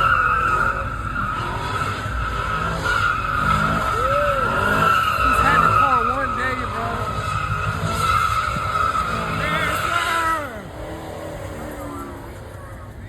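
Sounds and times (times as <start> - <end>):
car engines revving: 0.0 - 13.0
car tyres squealing: 0.0 - 13.0.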